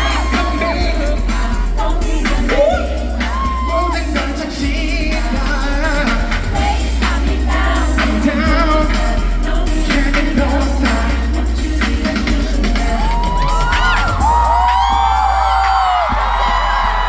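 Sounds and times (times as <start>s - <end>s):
person singing: 0.0s - 17.0s
pop beat with heavy bass: 0.0s - 17.0s.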